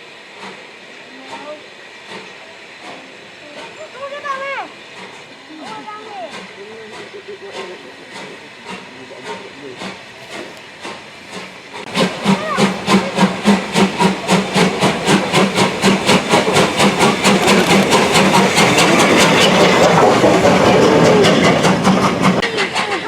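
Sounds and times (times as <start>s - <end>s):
steam locomotive exhaust chuffing: 0.0s - 23.0s.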